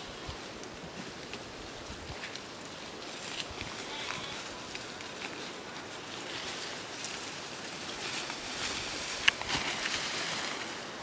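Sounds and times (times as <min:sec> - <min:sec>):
brush and leaves rustling: 0:00.0 - 0:11.0.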